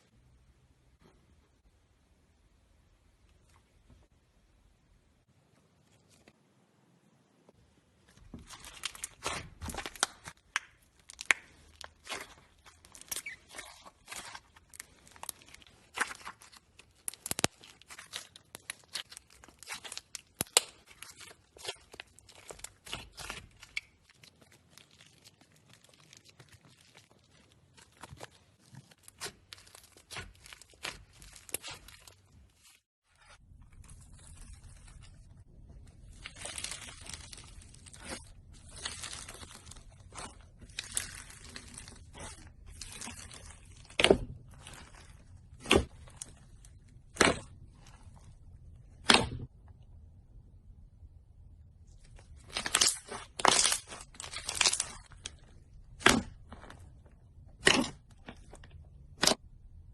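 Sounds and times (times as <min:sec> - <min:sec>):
slime crackling and rustling: 0:08.0 - 0:49.6, 0:51.6 - 0:59.9.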